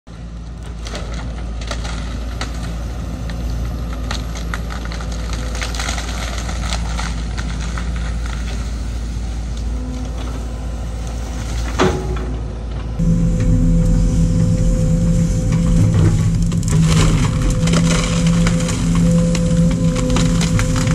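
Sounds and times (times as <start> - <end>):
demolition material cracking: 0.1 - 20.9
excavator engine running: 0.1 - 20.9.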